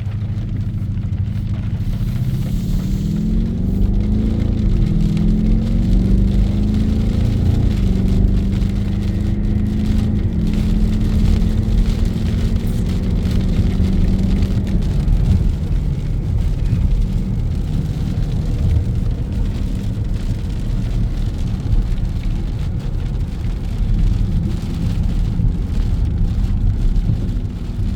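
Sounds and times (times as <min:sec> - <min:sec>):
heavy rain falling: 0:00.0 - 0:27.9
vehicle engine running low: 0:00.0 - 0:27.9.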